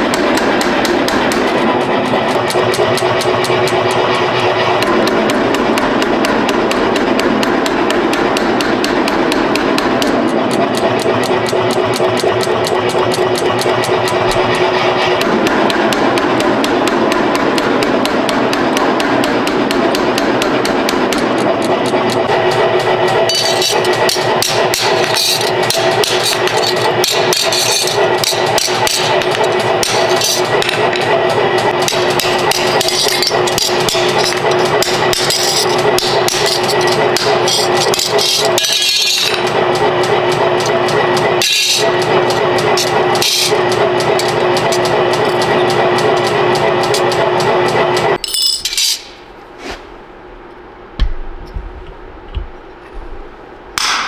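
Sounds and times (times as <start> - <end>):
power hammer pounding steel: 0.0 - 49.3, 53.8 - 54.0
machine noise: 0.0 - 54.0.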